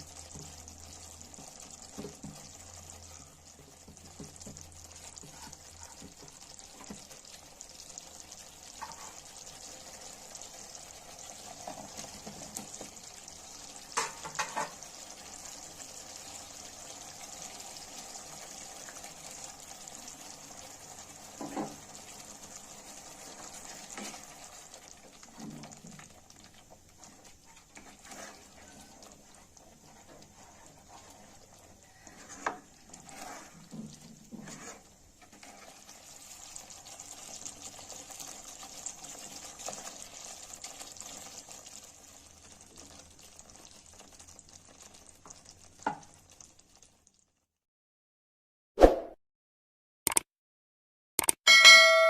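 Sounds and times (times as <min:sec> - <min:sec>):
food sizzling in a pan: 0:00.0 - 0:47.5.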